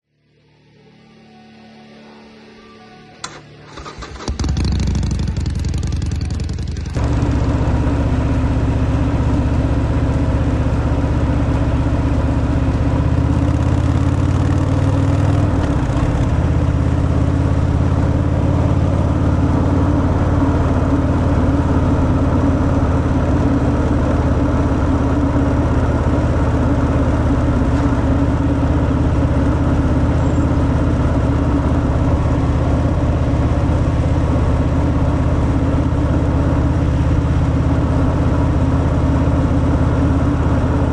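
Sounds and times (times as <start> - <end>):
motorcycle engine idling: 3.3 - 40.9.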